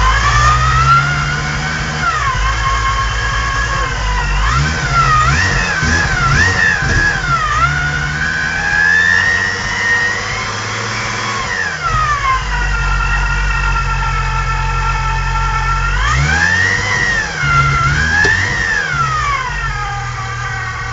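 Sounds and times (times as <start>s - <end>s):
engine revving: 0.0s - 20.9s
supercharger whine: 0.0s - 20.9s.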